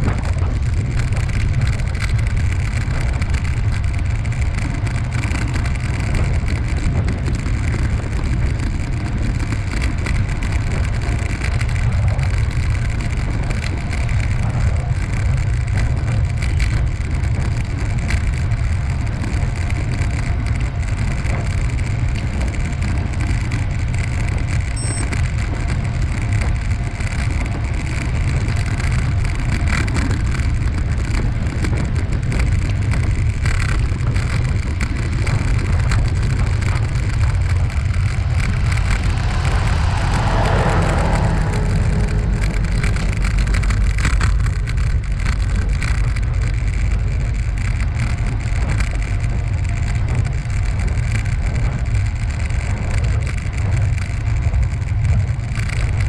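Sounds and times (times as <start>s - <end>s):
bicycle road noise: 0.0s - 56.0s
wind buffeting microphone: 0.0s - 56.0s.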